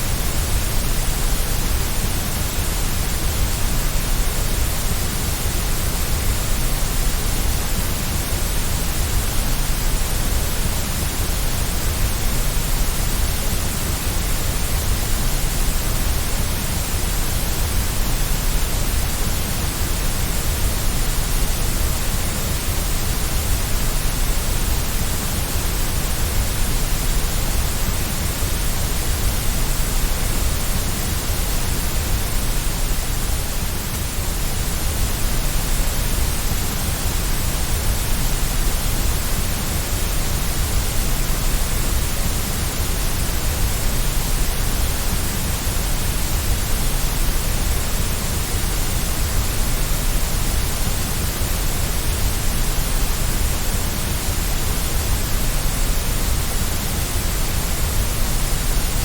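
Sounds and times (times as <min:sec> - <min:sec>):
steady white noise hiss: 0:00.0 - 0:59.0.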